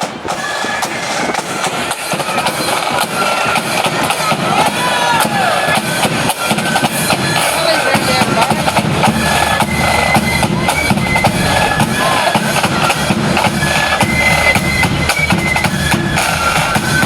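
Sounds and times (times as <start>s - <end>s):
flute band playing: 0.0s - 17.0s
snare and bass drums: 0.0s - 17.0s.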